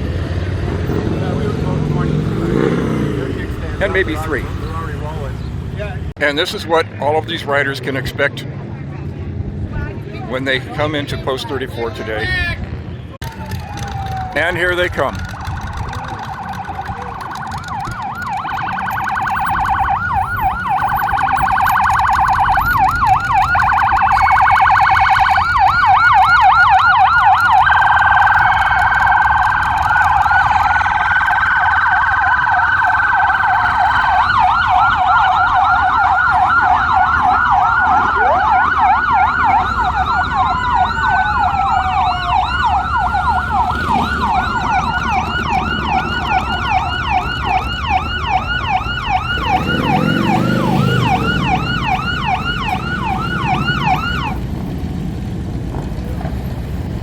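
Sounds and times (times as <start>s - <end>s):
motorcycle engine rumble: 0.0s - 7.1s, 8.4s - 57.0s
sirens wailing and yelping: 0.0s - 8.4s, 9.6s - 57.0s.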